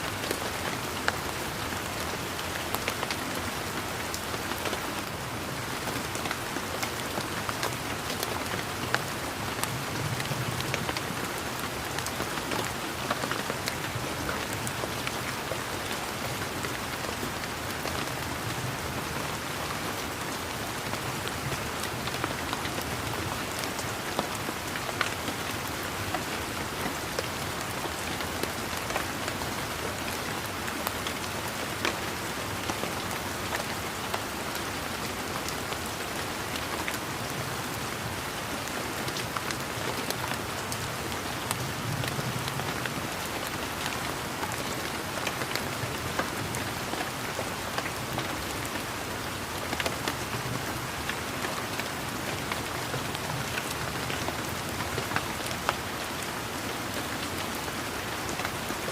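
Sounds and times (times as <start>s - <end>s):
rain on leaves: 0.0s - 58.9s.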